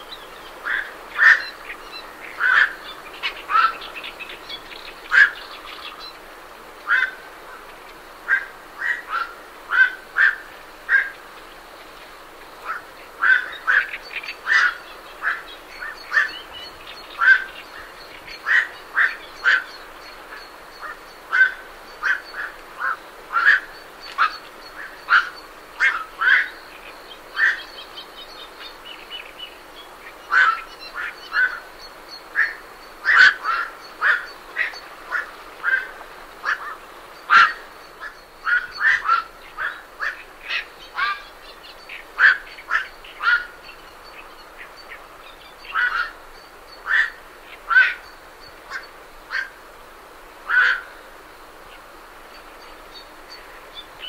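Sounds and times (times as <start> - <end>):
cicadas and crickets droning: 0.0 - 54.0
herons calling: 0.0 - 54.0.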